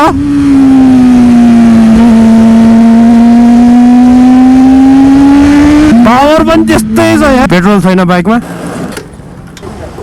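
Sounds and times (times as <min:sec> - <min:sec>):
motorcycle engine at high revs: 0:00.0 - 0:10.0.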